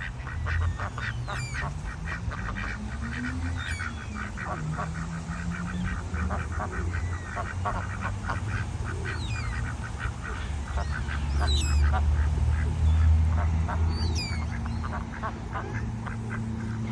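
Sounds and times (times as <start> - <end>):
ducks quacking: 0.0 - 16.9.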